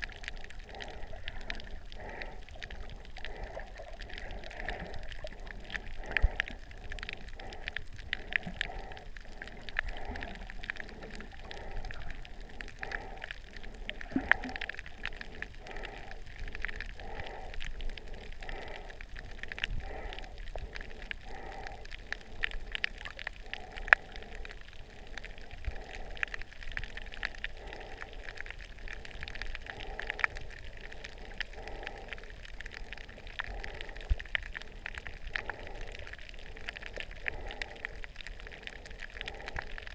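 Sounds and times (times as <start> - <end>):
muffled underwater wash: 0.0 - 39.9
sharp clicks and crackles: 0.0 - 39.9.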